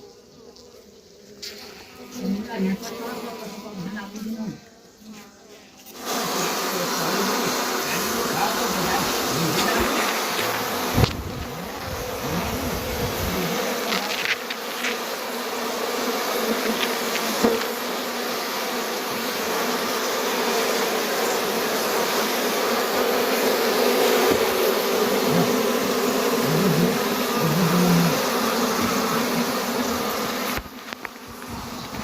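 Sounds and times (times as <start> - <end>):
bees buzzing: 0.0 - 32.0.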